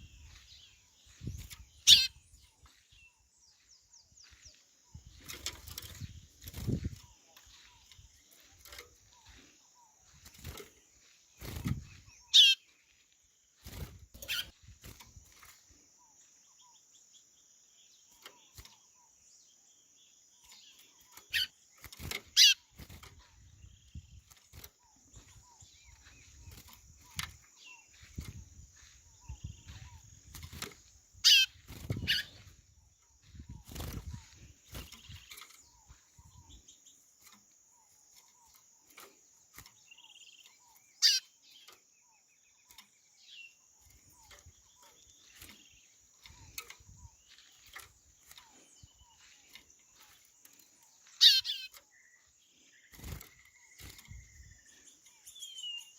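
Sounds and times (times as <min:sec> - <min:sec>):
bird sharp high calls: 0:00.0 - 0:15.0, 0:20.3 - 0:36.9, 0:39.8 - 0:55.9.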